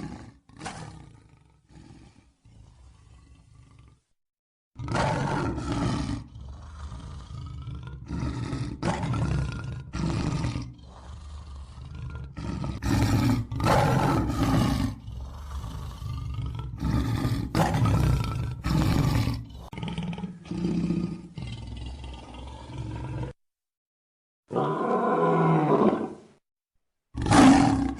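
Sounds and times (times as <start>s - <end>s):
large wild animal roaring: 0.0s - 4.2s, 4.8s - 23.4s, 24.5s - 26.3s, 27.2s - 27.9s.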